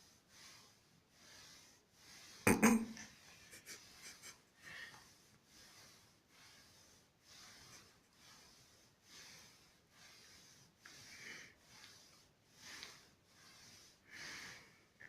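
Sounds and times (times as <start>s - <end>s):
rhythmic breathing close up: 0.0s - 15.0s.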